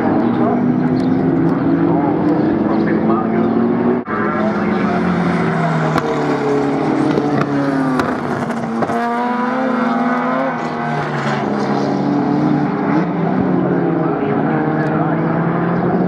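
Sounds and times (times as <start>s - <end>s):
race car engines at full throttle: 0.0s - 16.0s.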